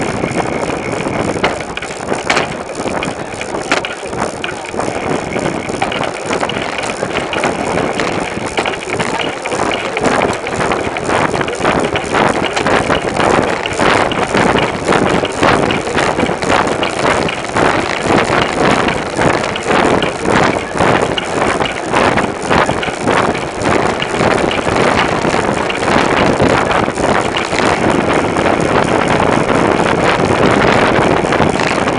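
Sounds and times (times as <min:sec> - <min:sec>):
bicycle ride rumble: 0:00.0 - 0:31.9
wind buffeting microphone: 0:00.0 - 0:31.9.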